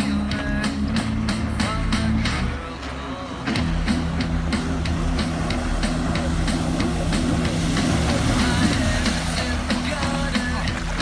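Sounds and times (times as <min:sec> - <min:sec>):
music with steady beat: 0:00.0 - 0:11.0
sustained low bass line: 0:00.0 - 0:11.0.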